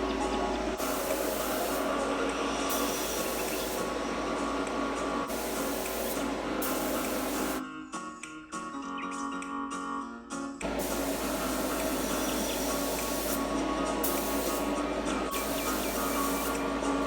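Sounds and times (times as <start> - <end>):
spray paint hissing: 0.0 - 7.6, 10.6 - 17.0
background music: 0.0 - 17.0.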